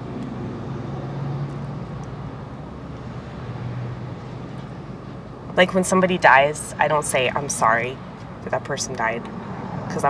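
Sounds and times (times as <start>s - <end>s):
car cabin engine and road hum: 0.0s - 10.0s.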